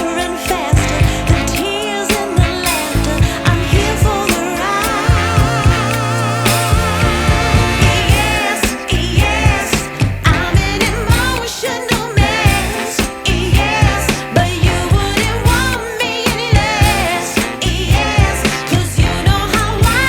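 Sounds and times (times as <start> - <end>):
wavering vocal melody: 0.0 - 19.9
pop music with steady beat: 0.0 - 20.0.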